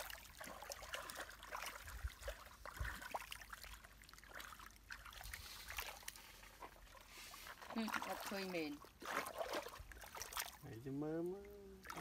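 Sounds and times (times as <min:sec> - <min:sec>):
small splashes: 0:00.0 - 0:12.0
water sloshing and trickling: 0:00.0 - 0:12.0.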